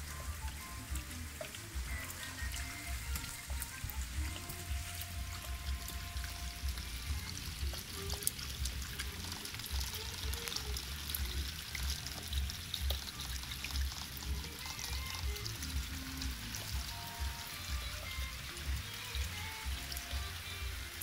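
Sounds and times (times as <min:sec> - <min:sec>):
rain pattering on water: 0:00.0 - 0:21.0
water pouring from downpipe: 0:00.0 - 0:21.0.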